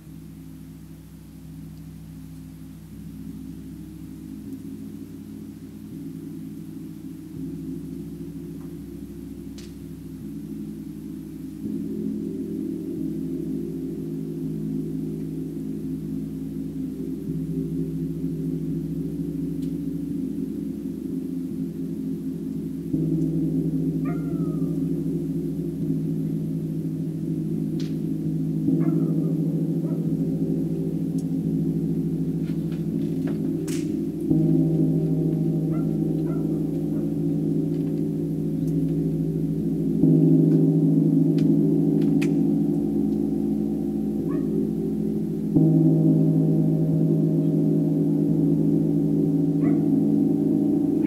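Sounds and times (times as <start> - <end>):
deep metallic ringing tones: 0.0 - 51.0.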